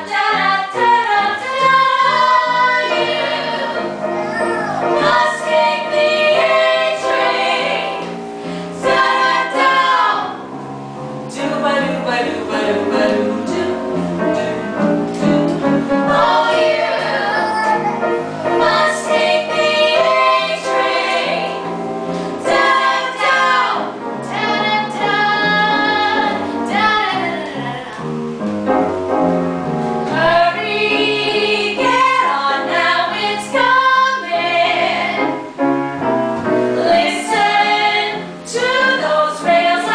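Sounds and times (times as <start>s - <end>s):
women singing together: 0.0s - 4.0s, 5.0s - 8.2s, 8.8s - 10.6s, 11.3s - 17.7s, 18.5s - 27.9s, 30.1s - 35.5s, 36.8s - 39.9s.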